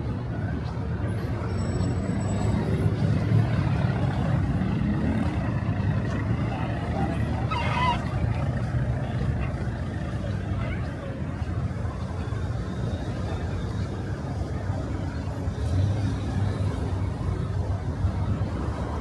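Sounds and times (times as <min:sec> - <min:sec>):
low rumble of passing traffic: 0:00.0 - 0:19.0.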